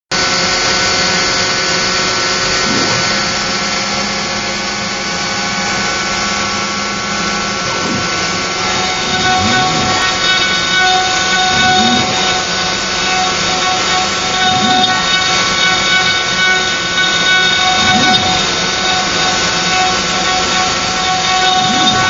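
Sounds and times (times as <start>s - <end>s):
machine whines sliding in pitch: 0.2s - 22.0s
router spindle cutting wood: 0.2s - 22.0s.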